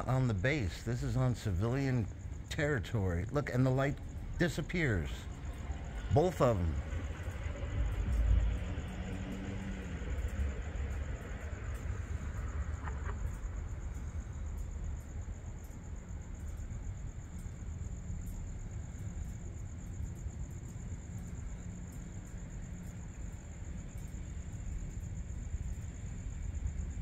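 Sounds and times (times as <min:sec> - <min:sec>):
crickets trilling: 0:00.0 - 0:27.0
low rumble: 0:00.0 - 0:27.0.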